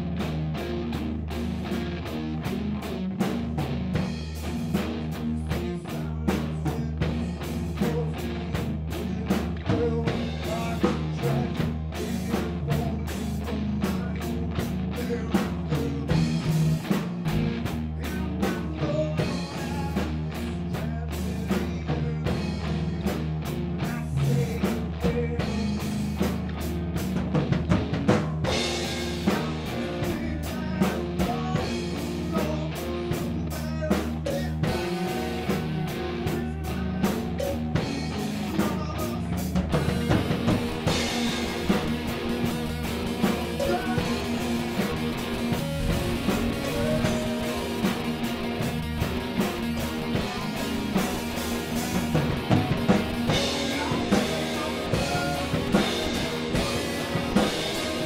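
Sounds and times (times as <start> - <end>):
drum kit beat: 0.0 - 58.0
electric guitar: 0.0 - 58.0
low bass: 0.0 - 58.0.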